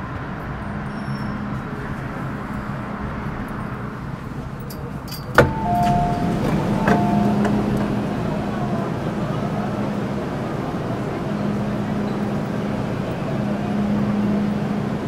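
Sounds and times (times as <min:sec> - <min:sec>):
train equipment humming: 0:01.6 - 0:15.0.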